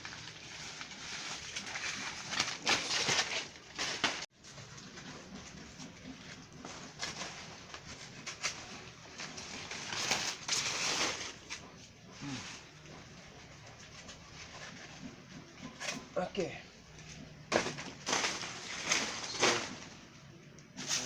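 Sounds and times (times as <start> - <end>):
dry leaves rustling and crackling: 0.0 - 14.6, 17.5 - 20.2.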